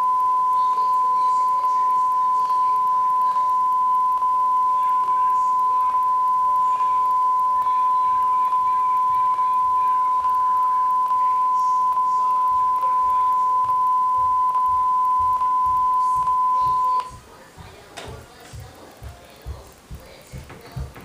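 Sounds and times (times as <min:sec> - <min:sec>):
high-pitched tone: 0:00.0 - 0:17.2.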